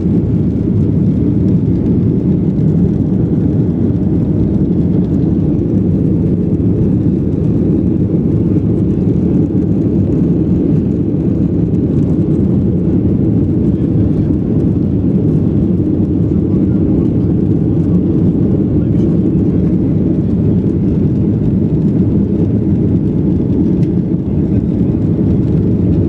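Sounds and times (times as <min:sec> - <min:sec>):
jet engines rumbling in cabin: 0:00.0 - 0:26.0.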